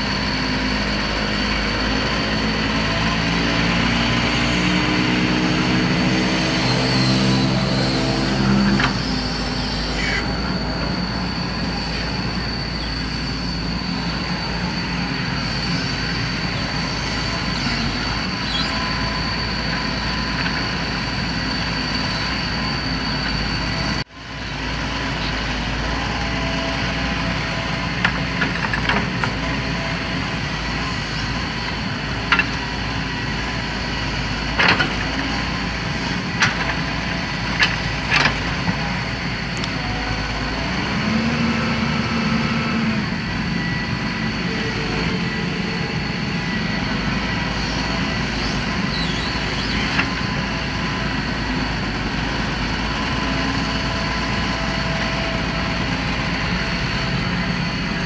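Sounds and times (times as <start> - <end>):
excavator engine running: 0.0 - 58.0
high whine: 0.0 - 58.0.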